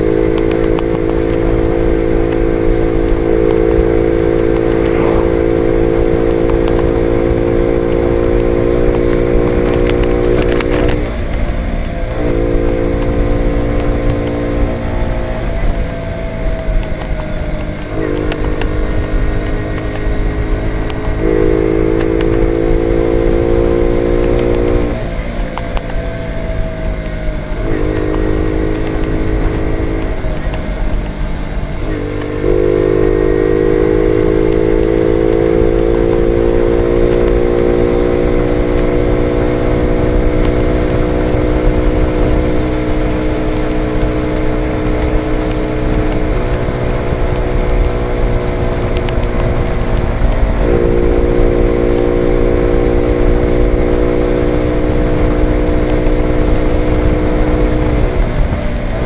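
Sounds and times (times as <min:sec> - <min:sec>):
moped engine running: 0:00.0 - 0:59.0.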